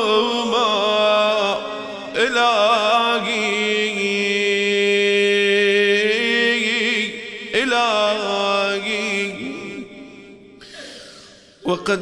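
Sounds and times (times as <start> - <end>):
man chanting: 0.0 - 10.6, 11.6 - 12.0.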